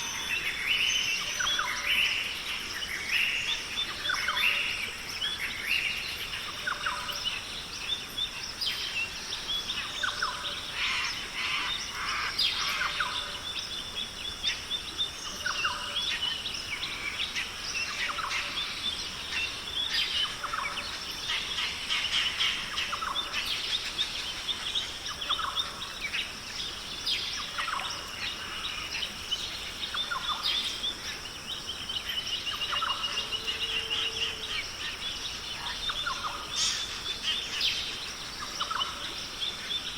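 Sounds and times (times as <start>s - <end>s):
birds chirping and trilling: 0.0s - 39.9s
high insect hum: 0.0s - 39.9s.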